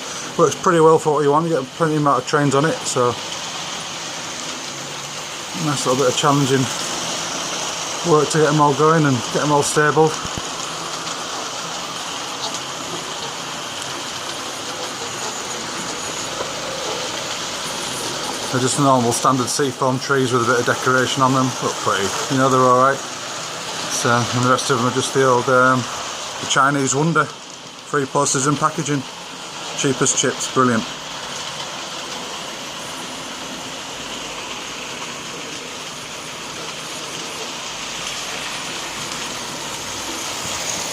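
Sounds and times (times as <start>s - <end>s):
model trains running on track: 0.0s - 40.9s.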